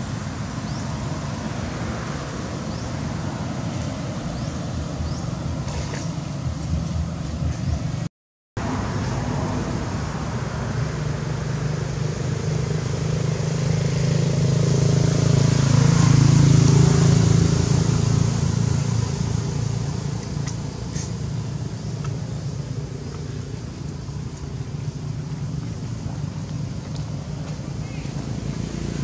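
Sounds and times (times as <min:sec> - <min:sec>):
vehicle engine passing by: 0:00.0 - 0:29.0.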